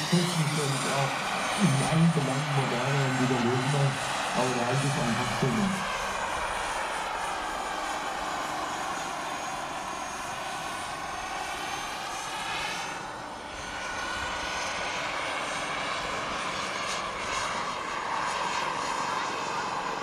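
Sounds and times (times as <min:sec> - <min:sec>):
model helicopter turbines whining: 0:00.0 - 0:20.0.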